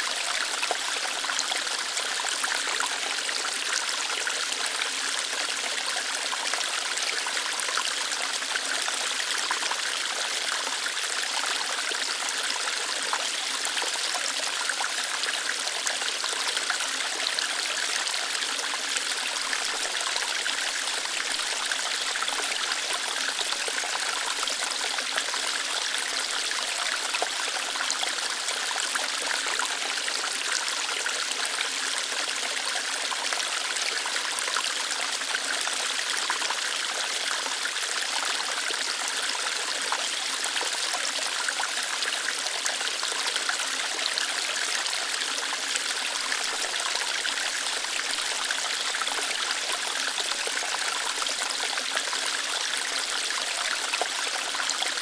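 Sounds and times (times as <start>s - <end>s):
water flowing over rocks: 0.0s - 55.0s.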